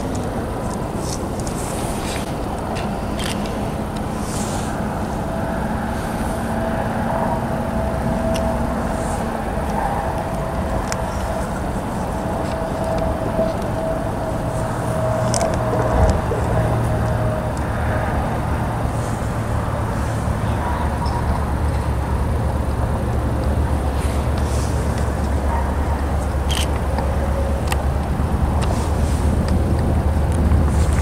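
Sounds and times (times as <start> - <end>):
car road and engine noise: 0.0 - 31.0
low hum: 0.0 - 31.0.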